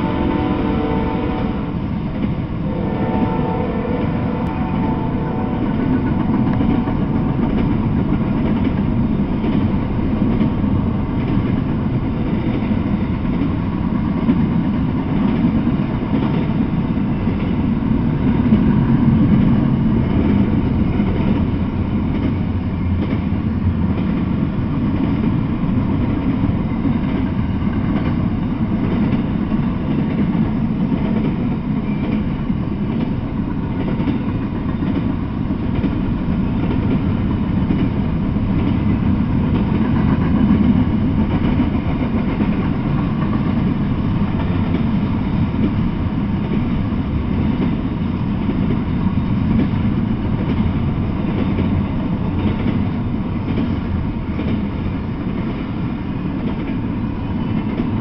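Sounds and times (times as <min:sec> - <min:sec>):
freight train wheels on rail: 0:00.0 - 0:58.0.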